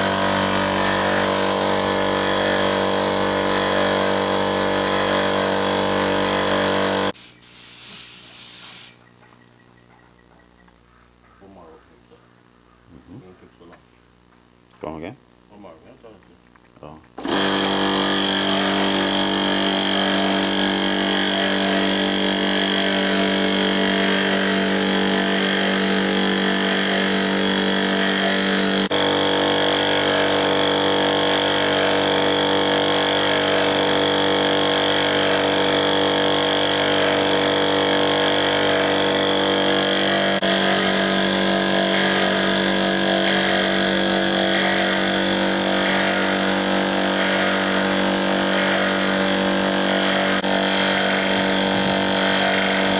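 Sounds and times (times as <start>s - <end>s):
air compressor humming and whining: 0.0s - 9.0s, 17.2s - 52.9s
spray gun hissing: 0.0s - 9.0s, 18.4s - 52.9s.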